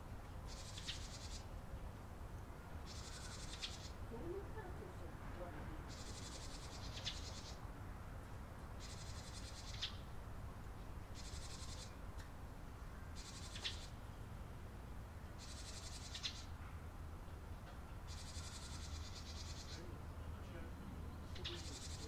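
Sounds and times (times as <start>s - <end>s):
small birds trilling: 0.0s - 5.2s, 5.8s - 7.8s, 8.6s - 14.2s, 15.1s - 16.6s, 17.9s - 20.2s, 20.8s - 22.0s.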